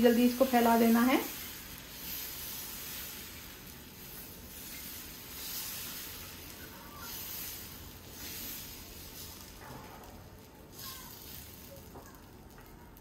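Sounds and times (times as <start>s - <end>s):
batter hissing on hot pan: 0.0s - 13.0s.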